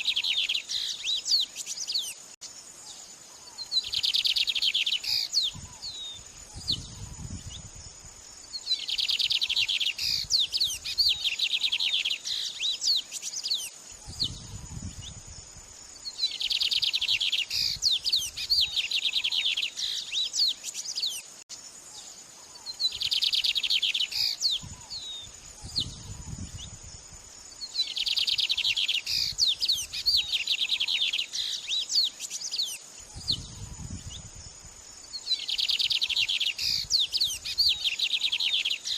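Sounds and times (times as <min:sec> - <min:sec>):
high insect-like whine: 0:00.0 - 0:38.9
songbird chirps and trills: 0:00.0 - 0:38.9.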